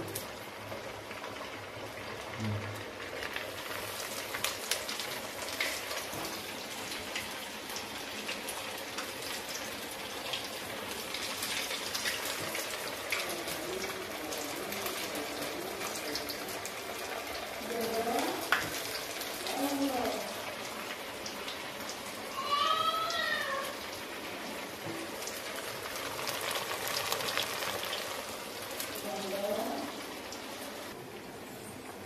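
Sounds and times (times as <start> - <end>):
food deep-frying in oil: 0.0 - 32.0.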